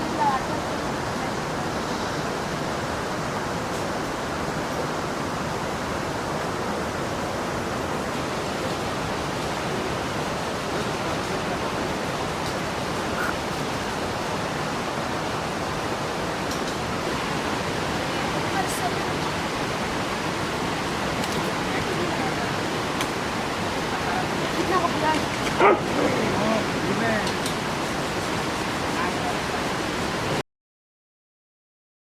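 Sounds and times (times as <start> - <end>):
waterfall rushing: 0.0 - 30.4.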